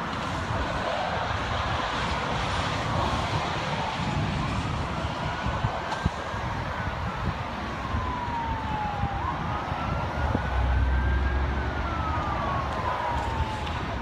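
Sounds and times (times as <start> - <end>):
emergency vehicle siren wailing: 0.0 - 14.0.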